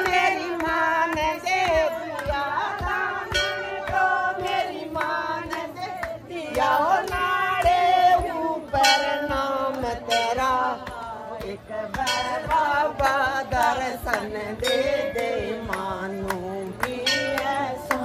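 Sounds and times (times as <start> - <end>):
voices singing: 0.0 - 18.0.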